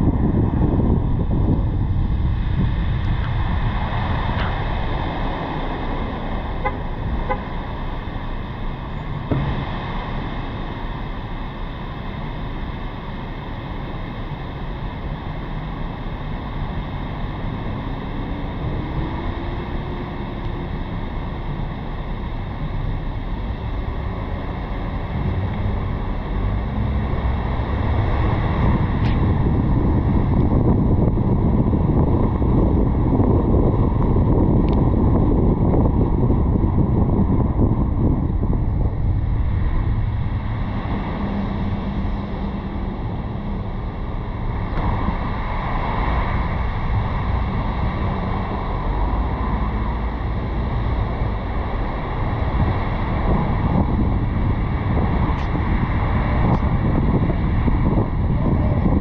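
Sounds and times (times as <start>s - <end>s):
car road noise: 0.0s - 59.0s
wind rushing over microphone: 0.0s - 59.0s.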